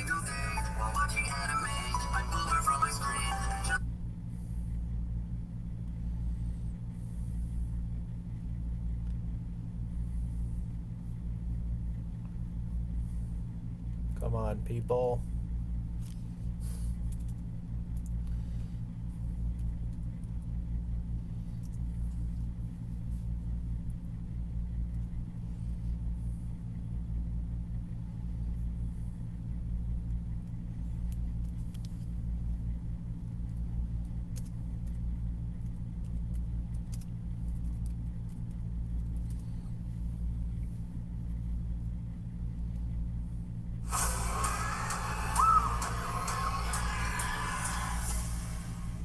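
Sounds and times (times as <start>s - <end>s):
pulsing mechanical hum: 0.0s - 49.0s.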